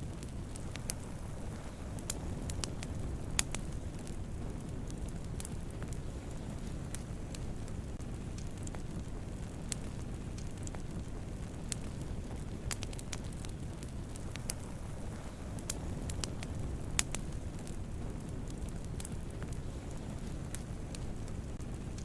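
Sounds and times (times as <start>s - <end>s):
fire popping and snapping: 0.0s - 22.0s
low rush of flames: 0.0s - 22.0s.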